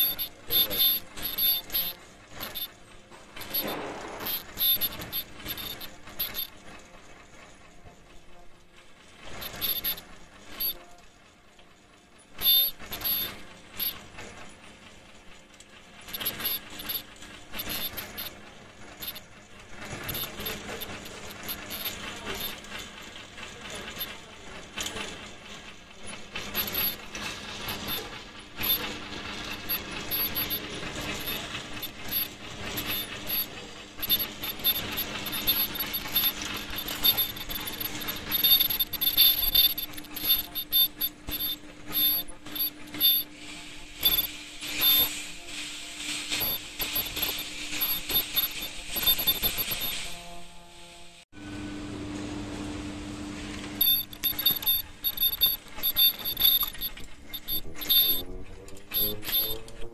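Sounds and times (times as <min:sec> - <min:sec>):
machine humming: 0:00.0 - 0:11.0, 0:12.2 - 0:59.9
rapid clicking and clatter of rollers: 0:00.0 - 0:50.7, 0:53.4 - 0:59.9.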